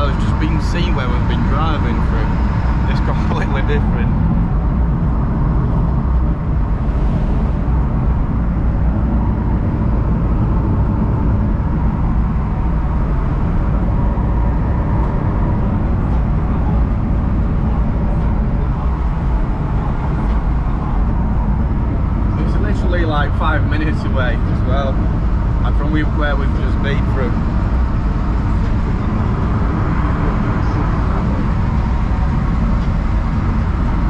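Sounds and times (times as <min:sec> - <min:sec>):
car engine and road drone: 0:00.0 - 0:34.0.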